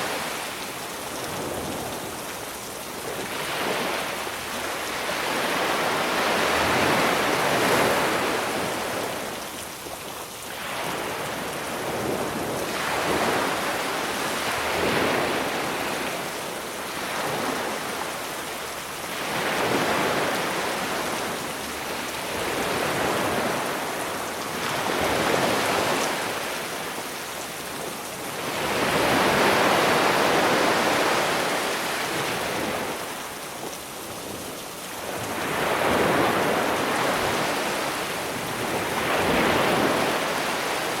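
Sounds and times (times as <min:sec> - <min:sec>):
rain hiss: 0:00.0 - 0:41.0
sea waves washing on beach: 0:00.0 - 0:41.0.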